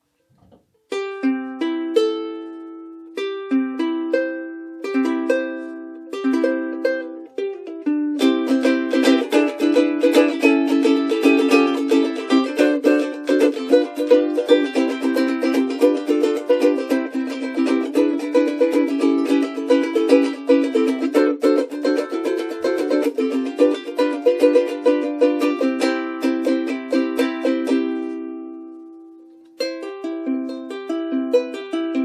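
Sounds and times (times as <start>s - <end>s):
ukulele playing: 0.4s - 32.0s.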